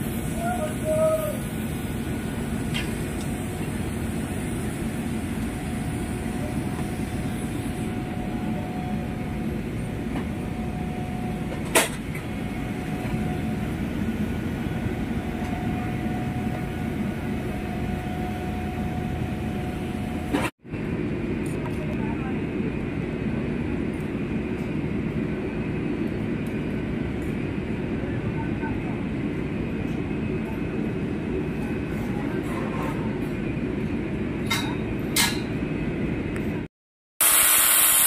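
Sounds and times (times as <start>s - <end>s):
machinery rumble: 0.0s - 36.7s.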